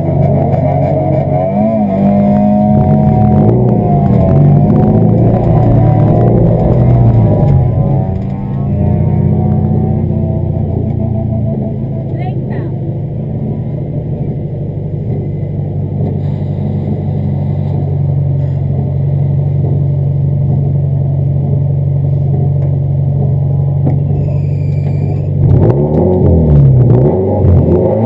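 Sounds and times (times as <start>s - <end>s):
car engine running and revving: 0.0s - 28.0s.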